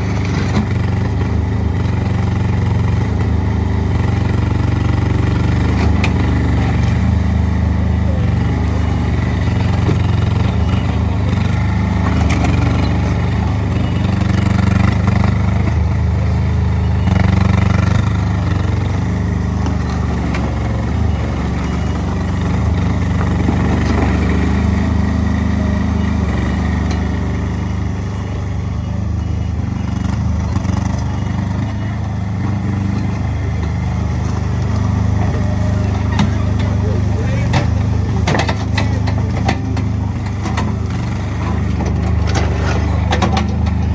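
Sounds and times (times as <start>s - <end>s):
small engine running: 0.0s - 43.9s.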